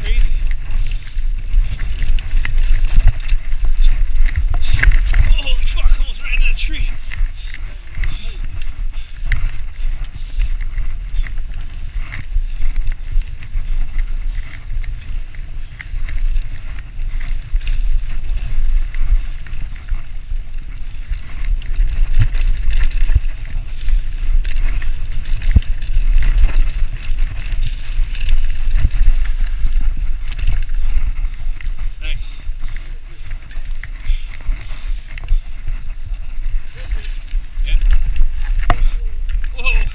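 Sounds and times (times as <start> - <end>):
bike knocks and rattles: 0.0 - 39.9
tyre noise on dirt: 0.0 - 39.9
wind buffeting microphone: 0.0 - 39.9.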